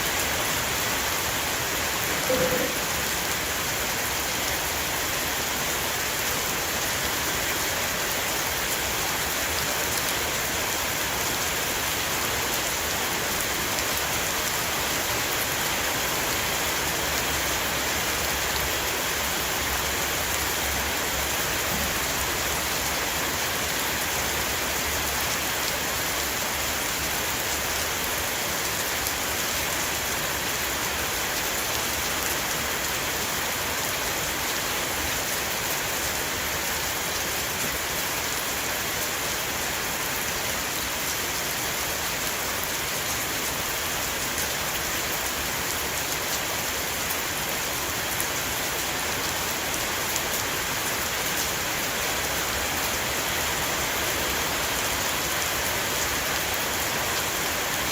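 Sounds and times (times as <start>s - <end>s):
heavy rain on a roof: 0.0s - 57.9s.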